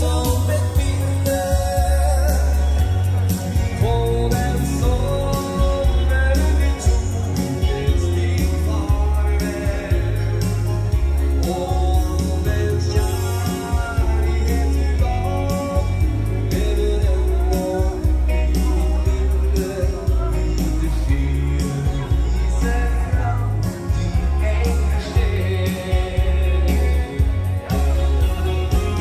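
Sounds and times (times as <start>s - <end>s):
live dance band music: 0.0s - 29.0s
man singing into microphone: 0.0s - 29.0s.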